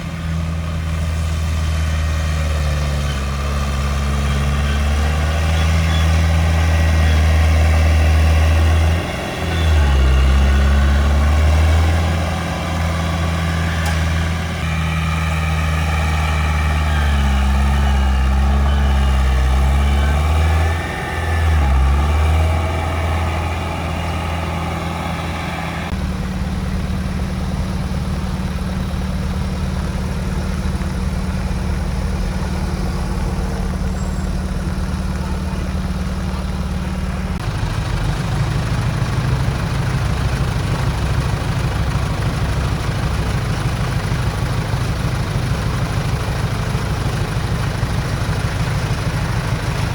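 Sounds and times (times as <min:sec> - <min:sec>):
heavy diesel engine running: 0:00.0 - 0:49.9.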